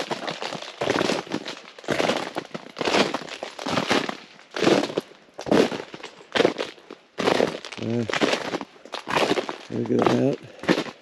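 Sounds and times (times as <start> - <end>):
footsteps crunching on icy ground: 0.0 - 11.0.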